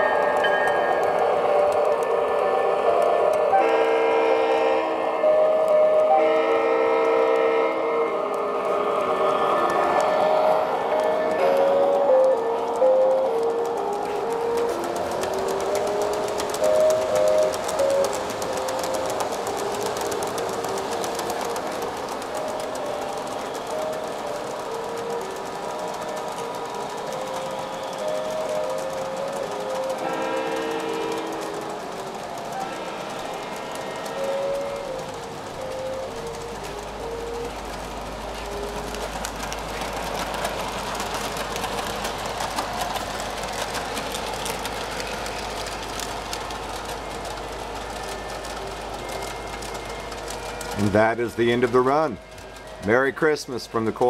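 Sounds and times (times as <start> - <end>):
clicking over rail joints: 0.0 - 54.0
model train wheels rattling: 0.0 - 54.0.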